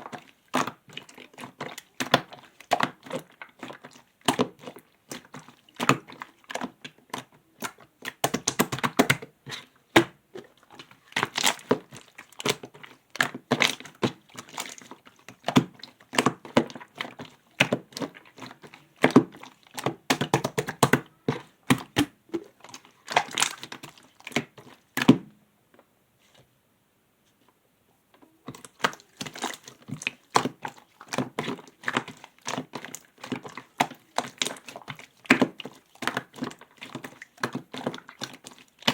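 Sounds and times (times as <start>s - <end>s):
slime squished by hand: 0.0s - 25.3s, 28.5s - 38.9s.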